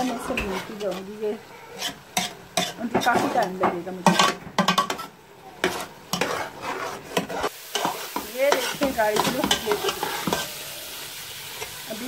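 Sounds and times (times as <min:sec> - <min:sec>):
spoon scraping a steel pot: 0:00.0 - 0:01.2, 0:01.8 - 0:10.5
carrots sizzling in oil: 0:00.0 - 0:12.0.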